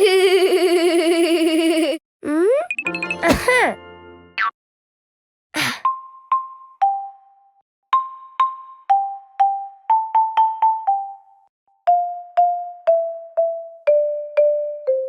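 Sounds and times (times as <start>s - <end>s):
glockenspiel cartoon melody: 0.0s - 4.4s, 5.9s - 15.0s.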